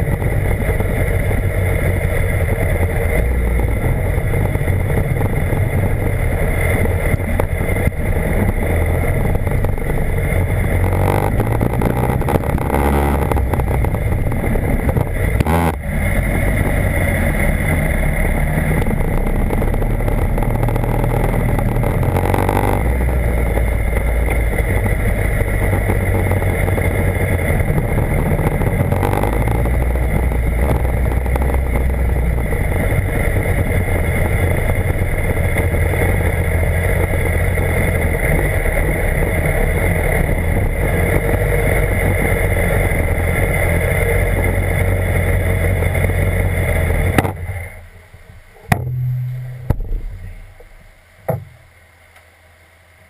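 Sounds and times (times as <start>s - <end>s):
motorcycle engine revving: 0.0s - 51.8s
steady rushing noise: 0.0s - 52.1s.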